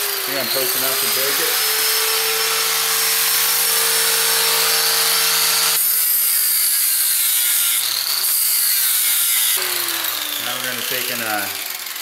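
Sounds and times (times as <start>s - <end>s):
cutoff wheel grinding steel: 0.0s - 12.0s.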